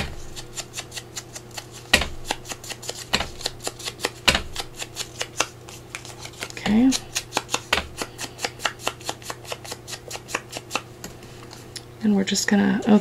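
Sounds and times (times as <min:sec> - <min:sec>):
foam tool tapping and scuffing paper: 0:00.0 - 0:10.8.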